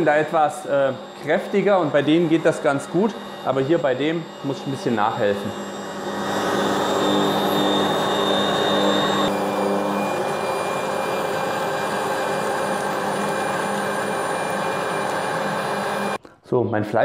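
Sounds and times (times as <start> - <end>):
meat grinder motor humming: 0.0 - 16.2.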